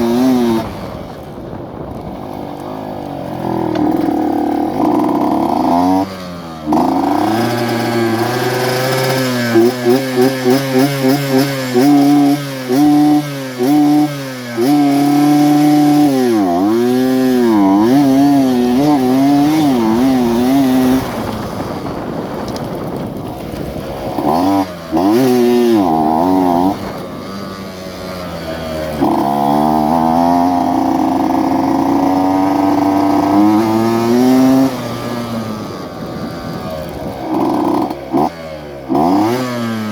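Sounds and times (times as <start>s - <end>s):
two-stroke motorcycle revving: 0.0s - 39.9s.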